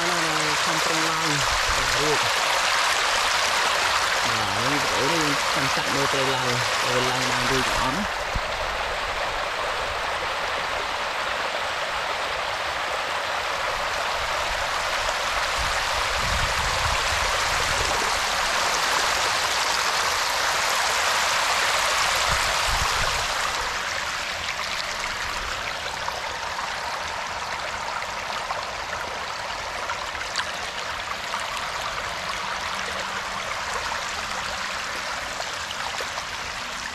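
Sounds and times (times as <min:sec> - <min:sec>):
water running and splashing: 0:00.0 - 0:36.9.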